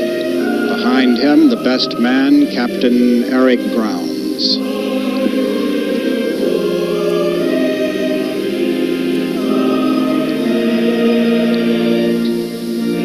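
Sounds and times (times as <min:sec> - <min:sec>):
church choir singing: 0:00.0 - 0:13.0.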